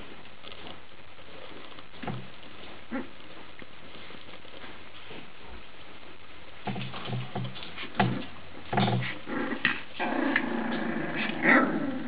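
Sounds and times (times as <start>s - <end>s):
puppies growling: 0.0s - 5.3s, 6.7s - 12.0s.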